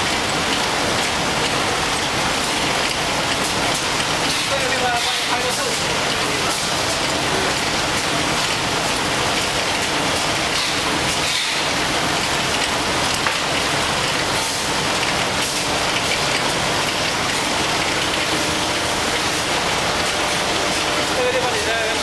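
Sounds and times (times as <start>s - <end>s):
dense machine noise: 0.0s - 22.0s
rapid clicking of conveyors: 0.0s - 22.0s.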